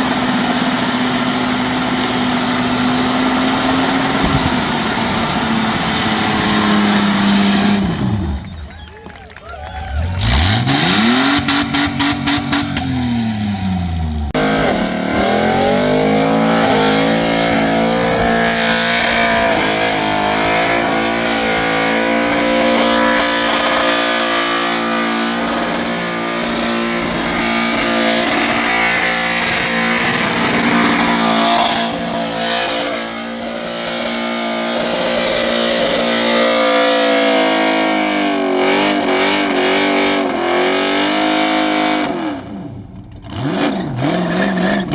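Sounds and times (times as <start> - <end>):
car engine revving: 0.0 - 8.8, 9.8 - 44.9.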